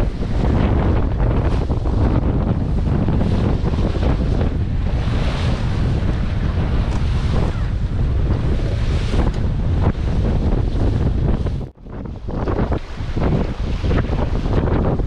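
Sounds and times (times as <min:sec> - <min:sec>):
water rushing along hull: 0:00.0 - 0:15.0
wind rumbling on microphone: 0:00.0 - 0:15.0.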